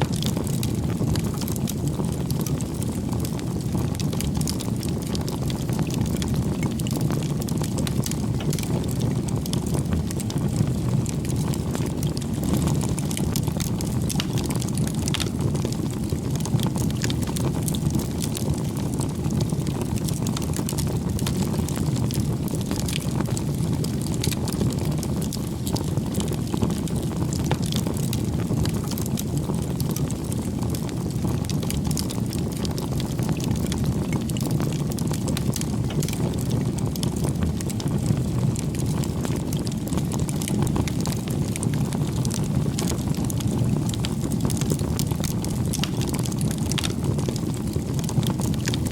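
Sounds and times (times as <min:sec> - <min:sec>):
bonfire flames crackling: 0:00.0 - 0:48.9.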